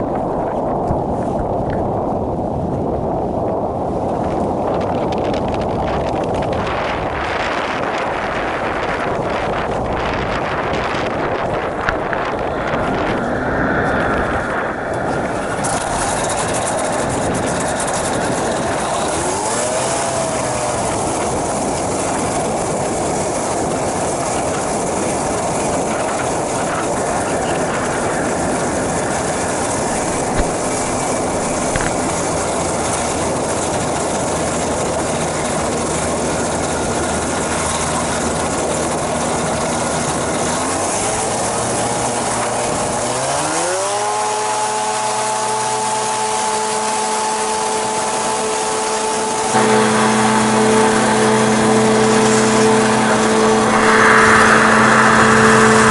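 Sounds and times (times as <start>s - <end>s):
rushing noise: 0.0s - 44.8s, 46.9s - 55.9s
aircraft engine and propeller: 0.0s - 55.9s.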